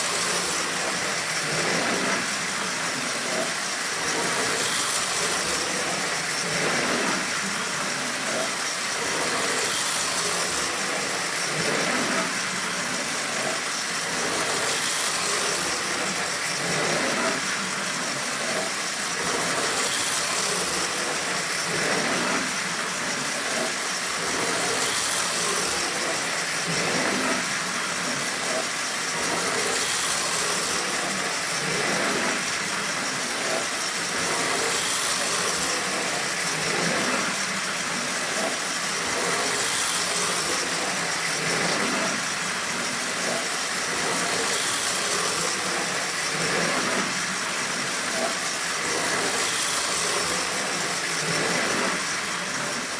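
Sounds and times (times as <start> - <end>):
toy train motor hum: 0.0 - 52.9
wheel rattle on track: 0.0 - 52.9.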